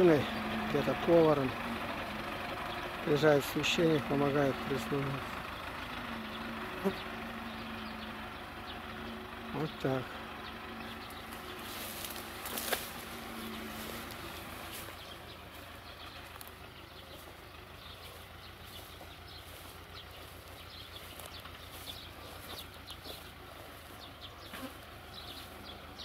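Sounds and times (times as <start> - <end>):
small birds chirping: 0.0 - 26.0
tractor engine rumble: 0.0 - 26.0.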